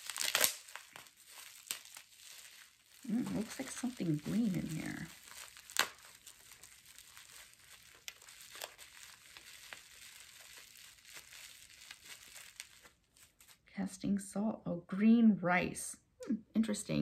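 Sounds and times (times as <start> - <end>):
packaging crinkling: 0.0 - 13.7.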